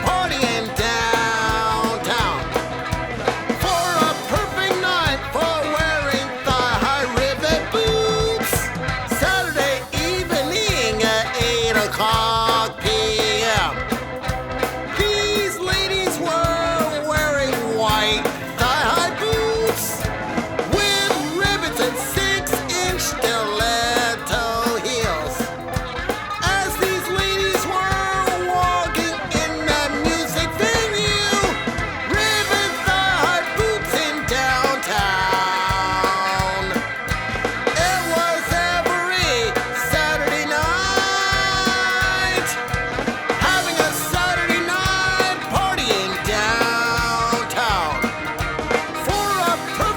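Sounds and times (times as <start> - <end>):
rock song with singing: 0.0 - 49.9.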